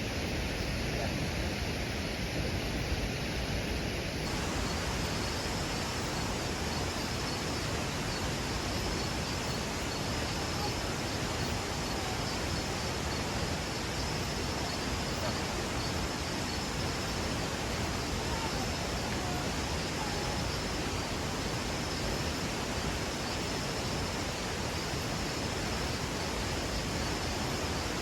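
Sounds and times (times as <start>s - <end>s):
water rushing: 4.2s - 28.0s
faint high-pitched pulsing tone: 4.3s - 28.0s.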